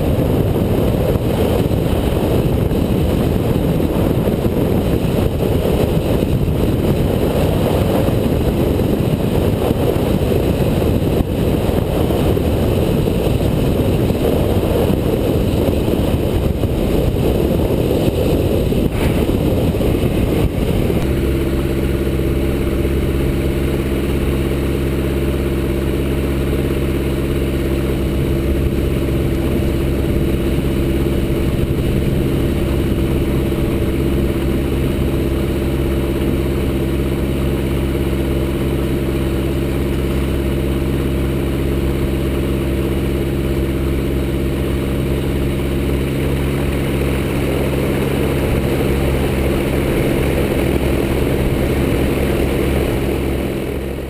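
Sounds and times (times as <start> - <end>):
aircraft engine and propeller drone: 0.0 - 54.0
rush of air noise: 0.0 - 54.0.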